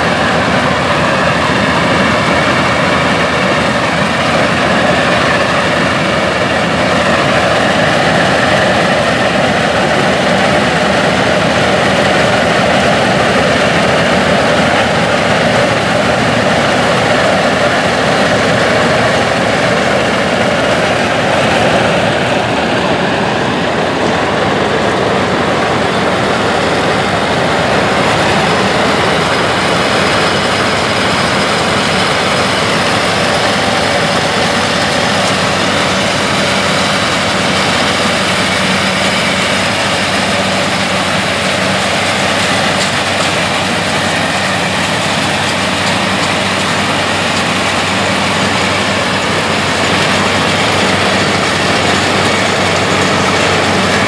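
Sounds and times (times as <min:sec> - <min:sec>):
tractors running under load: 0:00.0 - 0:54.0.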